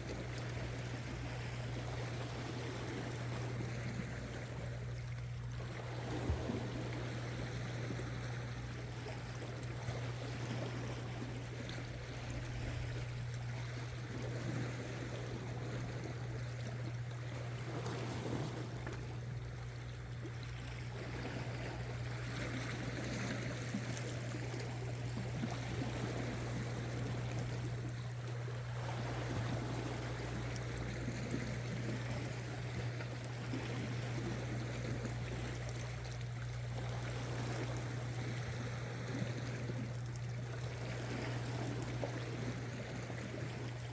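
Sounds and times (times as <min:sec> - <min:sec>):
seawater washing against rocks: 0:00.0 - 0:43.9
steady low hum: 0:00.0 - 0:43.9.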